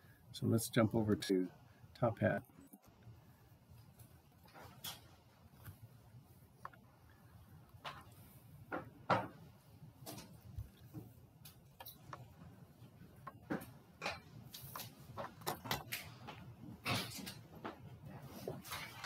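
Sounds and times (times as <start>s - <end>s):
faint room noise: 0.0s - 19.0s.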